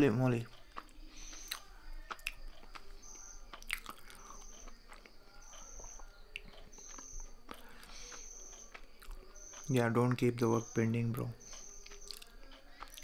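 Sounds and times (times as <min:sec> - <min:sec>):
faint high-pitched chirp: 0:00.0 - 0:13.0
mouth clicks and smacks: 0:00.5 - 0:09.7, 0:11.4 - 0:13.0.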